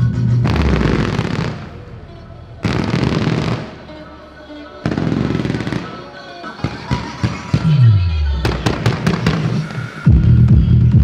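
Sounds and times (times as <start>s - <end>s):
music soundtrack: 0.0s - 11.0s
firework bangs: 0.4s - 10.0s.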